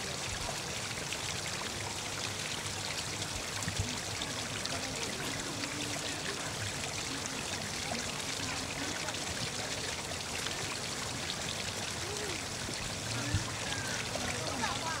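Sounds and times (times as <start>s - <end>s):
water pouring off stone ledge: 0.0s - 15.0s
water splashing over rocks: 0.0s - 15.0s.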